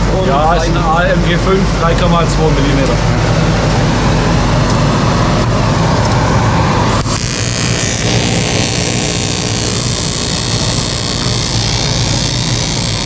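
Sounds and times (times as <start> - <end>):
welding arc buzzing: 0.0 - 13.0
welding machine cooling hum: 0.0 - 13.0.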